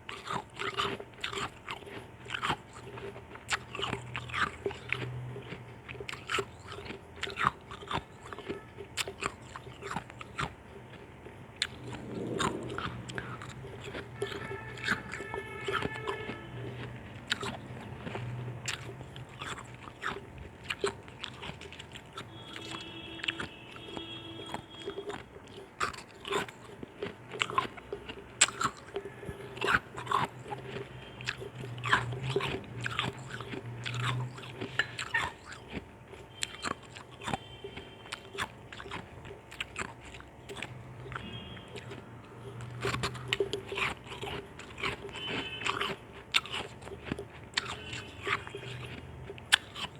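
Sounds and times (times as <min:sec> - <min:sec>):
ice crunching between teeth: 0:00.0 - 0:49.9.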